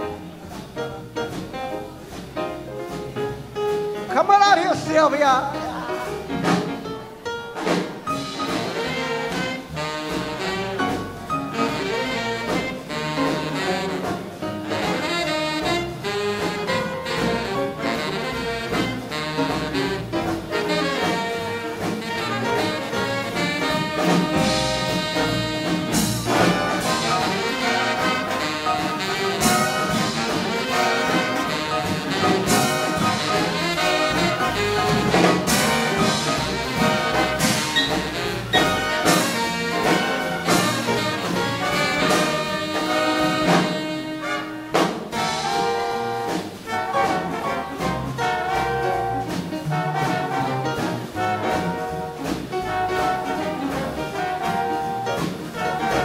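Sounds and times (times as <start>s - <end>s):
big band swing jazz: 0.0s - 56.0s.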